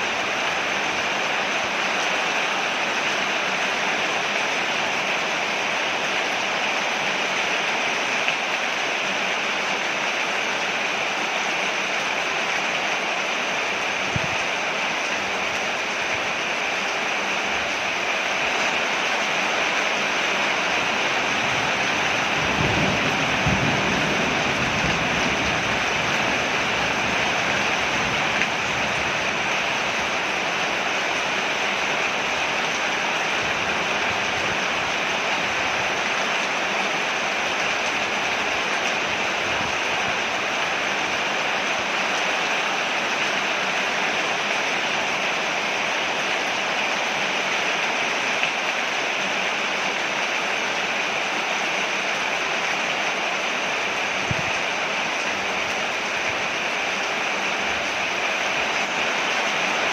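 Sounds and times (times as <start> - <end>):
rain falling on a porch: 0.0 - 59.9.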